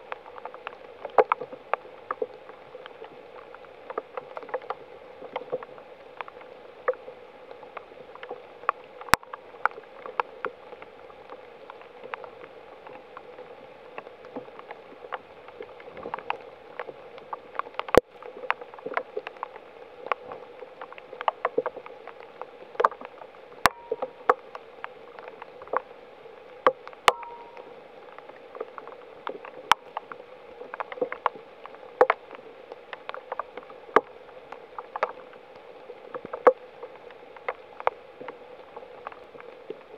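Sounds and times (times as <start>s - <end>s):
sharp drips and clicks: 0.0s - 39.9s
steady rain in woodland: 0.0s - 39.9s.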